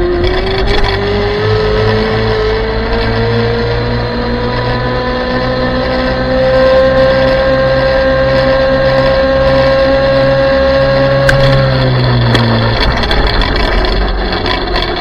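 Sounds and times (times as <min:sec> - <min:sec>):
electric motorbike motor whining: 0:00.0 - 0:15.0.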